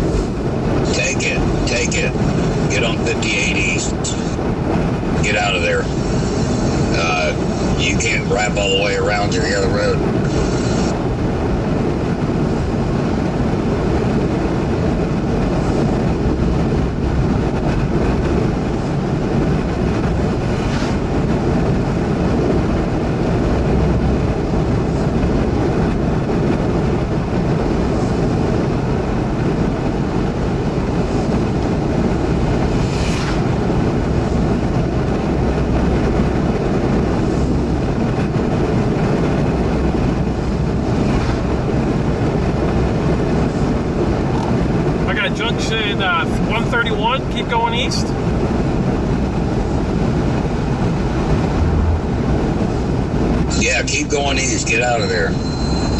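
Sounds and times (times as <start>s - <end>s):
wind noise: 0.0s - 8.6s, 9.8s - 45.1s, 48.1s - 53.7s
car driving through storm: 0.0s - 46.6s, 47.3s - 54.9s
road noise: 0.0s - 55.9s.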